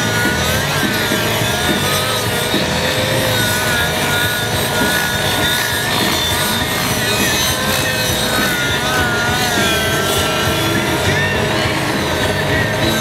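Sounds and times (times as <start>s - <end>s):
model helicopter motor buzzing: 0.0s - 13.0s.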